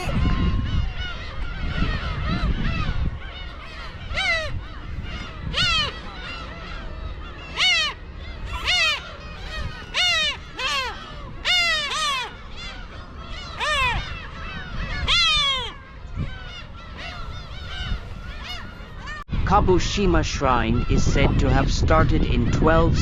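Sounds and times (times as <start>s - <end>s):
gulls calling: 0.0s - 23.0s.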